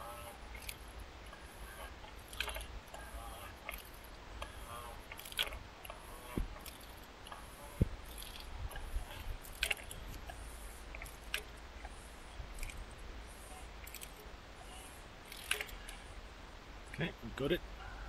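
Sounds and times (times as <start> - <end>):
low steady hum: 0.0 - 18.0
torque wrench clicks and creaks: 0.3 - 16.1.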